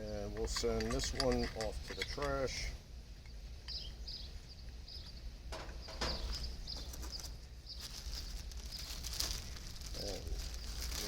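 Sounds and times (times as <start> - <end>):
small birds chirping: 0.1 - 11.0
steady low rumble: 1.8 - 11.0.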